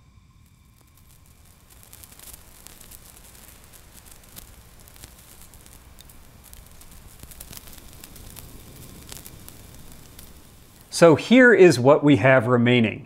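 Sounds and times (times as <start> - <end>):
charring wood crackling: 0.0 - 11.5
gas burner flame hissing: 0.0 - 11.5.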